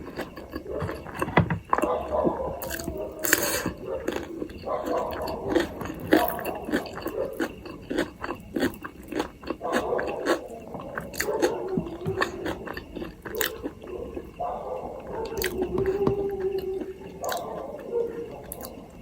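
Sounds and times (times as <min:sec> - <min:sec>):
person chewing: 0:00.0 - 0:19.0.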